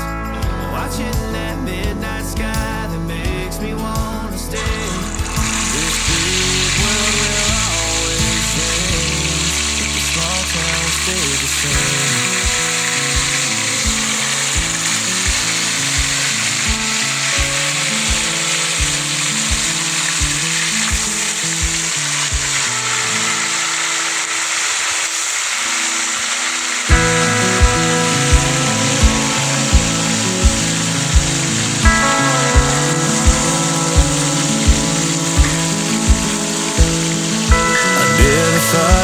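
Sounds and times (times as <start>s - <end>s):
country-pop backing music: 0.0s - 39.0s
food frying in oil: 4.6s - 39.0s.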